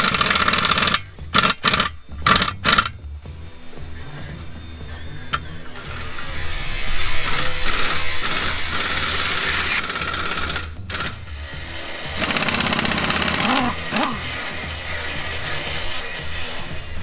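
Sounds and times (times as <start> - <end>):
pneumatic impact wrench rattling: 0.0 - 3.0, 3.9 - 14.8.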